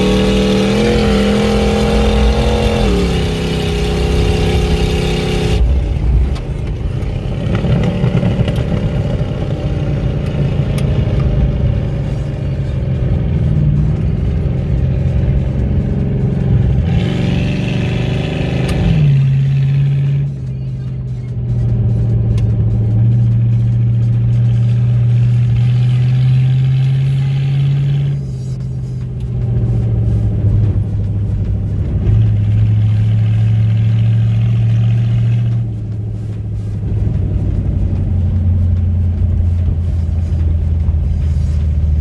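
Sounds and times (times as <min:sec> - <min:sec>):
truck engine deep hum: 0:00.0 - 0:42.0.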